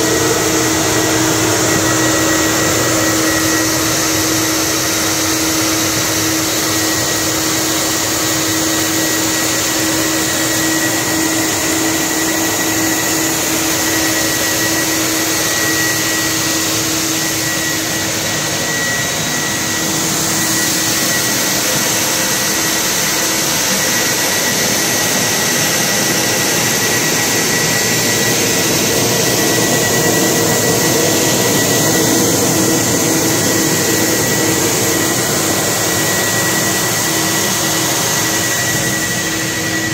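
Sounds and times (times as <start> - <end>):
cleaning machine whirring: 0.0 - 39.9.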